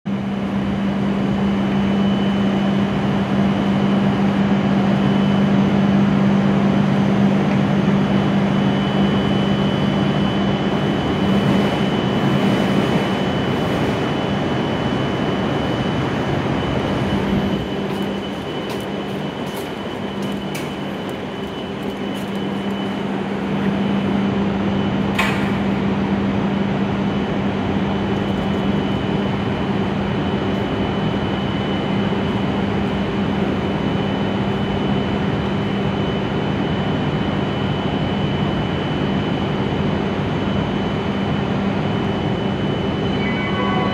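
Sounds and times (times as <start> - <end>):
idle train humming: 0.2 - 35.6, 41.3 - 43.9.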